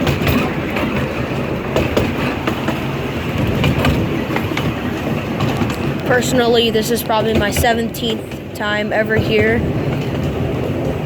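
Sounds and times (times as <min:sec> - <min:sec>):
train car rumbling on track: 0:00.0 - 0:11.0
wheels clicking over rail joints: 0:00.0 - 0:11.0.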